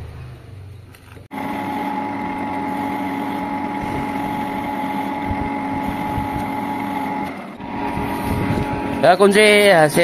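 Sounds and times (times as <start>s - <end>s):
metal lathe humming and whining: 1.3s - 10.0s.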